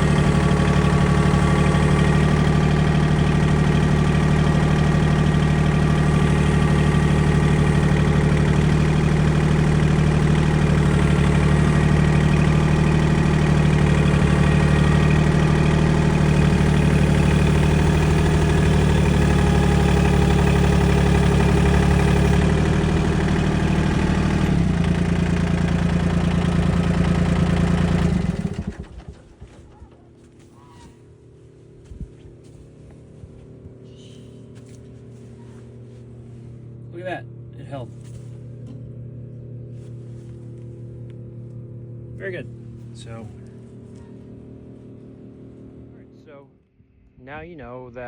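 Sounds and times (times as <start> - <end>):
tractor diesel engine running: 0.0 - 46.4.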